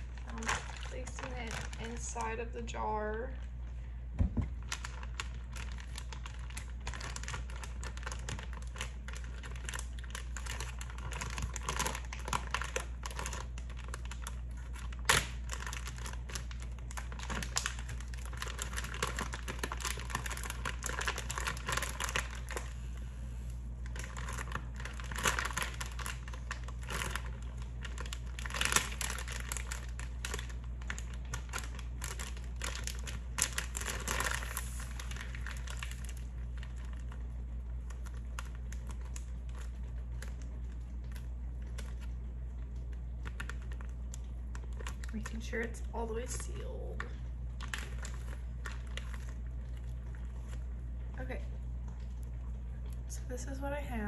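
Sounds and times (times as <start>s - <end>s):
plastic bag crinkling: 0.0s - 53.1s
steady low hum: 0.0s - 54.0s.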